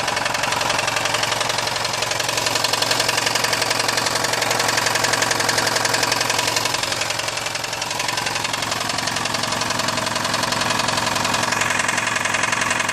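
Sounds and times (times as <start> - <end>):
engine knocking: 0.0 - 12.9.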